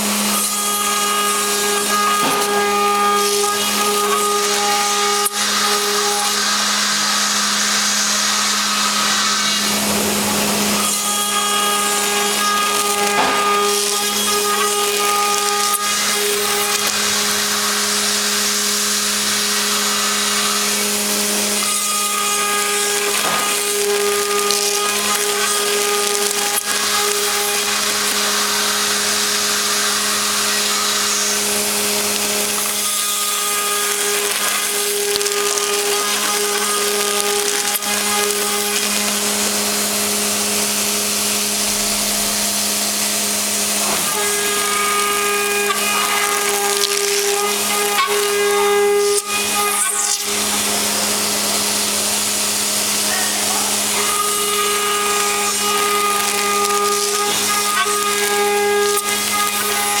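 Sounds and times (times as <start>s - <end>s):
hissing cutting noise: 0.0s - 60.0s
router spindle whine: 0.0s - 60.0s.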